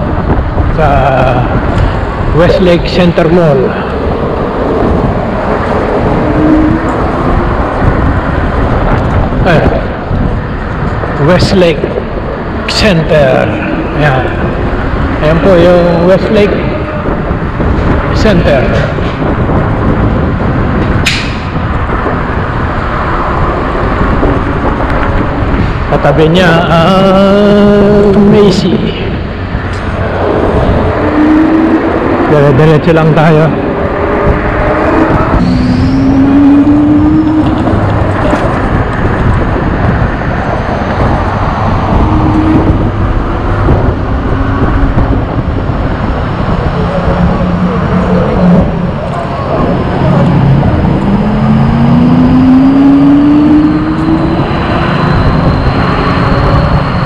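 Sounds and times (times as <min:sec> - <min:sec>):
car engines passing: 0:00.0 - 0:57.0
city traffic: 0:00.0 - 0:57.0
road noise: 0:00.0 - 0:57.0
wind noise on microphone: 0:00.0 - 0:57.0.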